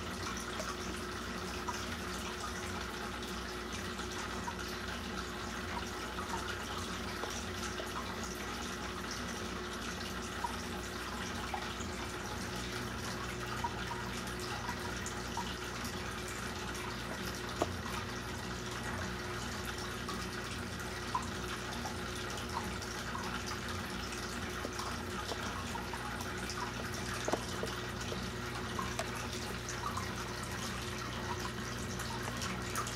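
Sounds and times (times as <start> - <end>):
aquarium water trickling: 0.0 - 32.9
small drips and ticks: 0.0 - 32.9.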